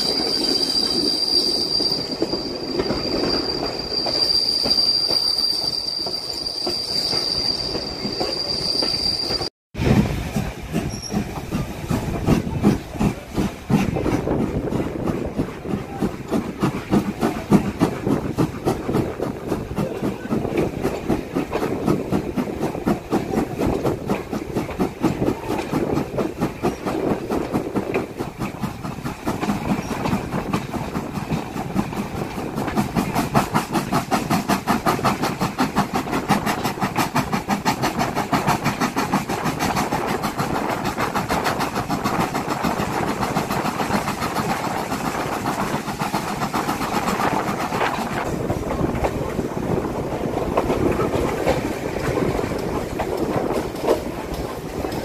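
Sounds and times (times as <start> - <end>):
train wheels clattering on track: 0.0 - 55.0.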